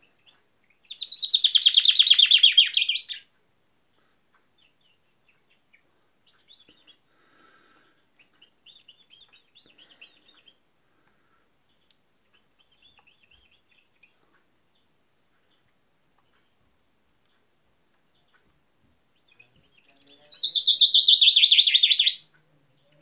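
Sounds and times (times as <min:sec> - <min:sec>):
faint chaffinch song: 0:00.0 - 0:23.0.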